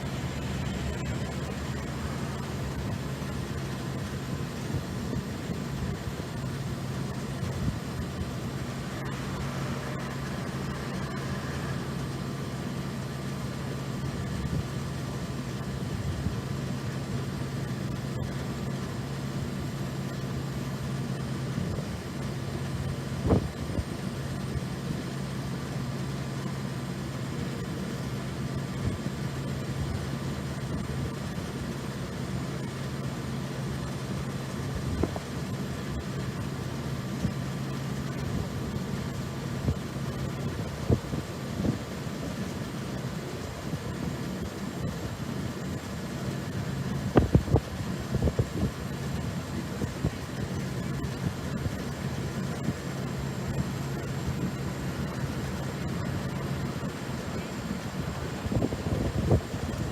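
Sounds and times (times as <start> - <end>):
low hum of road traffic: 0.0 - 59.9.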